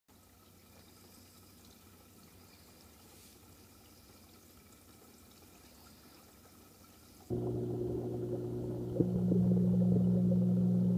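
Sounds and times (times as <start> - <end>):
aquarium water pump hum: 0.1 - 10.9.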